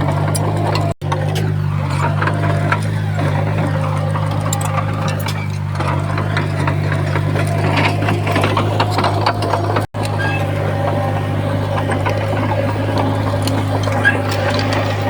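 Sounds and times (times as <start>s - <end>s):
heavy machinery diesel engine: 0.0s - 15.0s.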